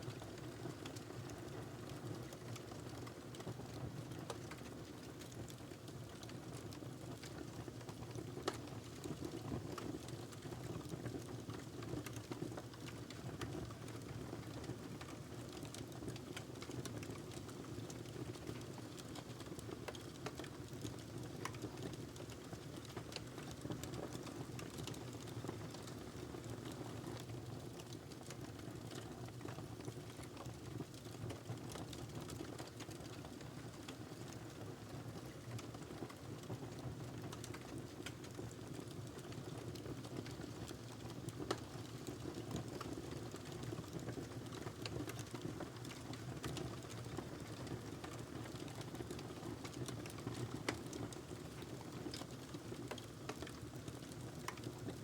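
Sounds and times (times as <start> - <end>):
wood fire crackling: 9.7 - 55.0.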